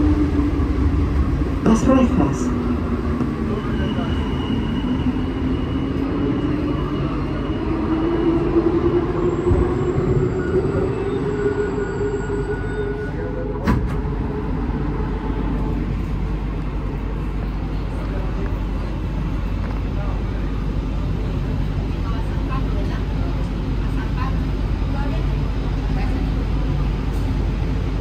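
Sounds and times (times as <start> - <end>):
train rumble with motor whine: 0.0 - 28.0.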